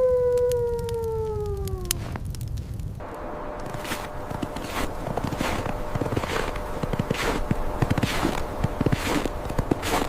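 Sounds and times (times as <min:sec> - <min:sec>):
crunching footsteps: 0:01.9 - 0:10.0.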